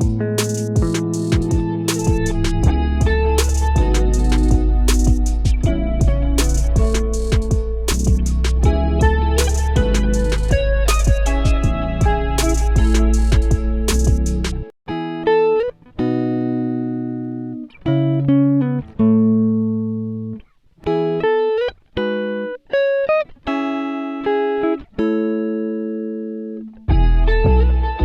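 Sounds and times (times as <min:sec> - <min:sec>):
plucked guitar melody: 0:00.0 - 0:28.0.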